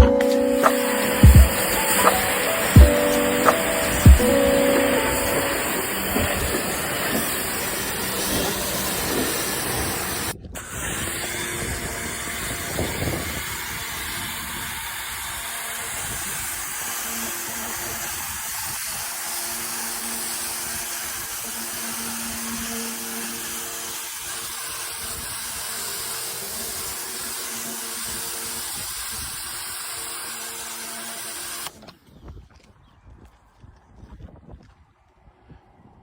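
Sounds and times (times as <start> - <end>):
pressure washer spraying water: 0.0 - 31.7.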